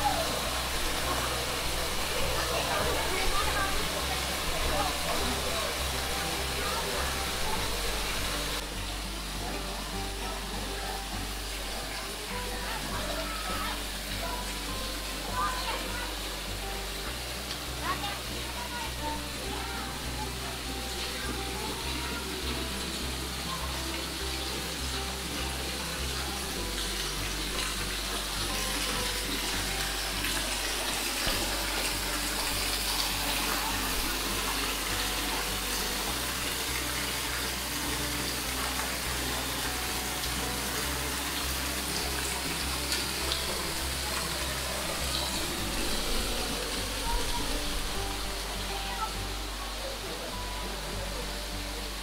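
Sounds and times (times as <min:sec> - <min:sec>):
soft music: 0:00.0 - 0:52.0
waterfall splashing onto stone: 0:00.0 - 0:52.0.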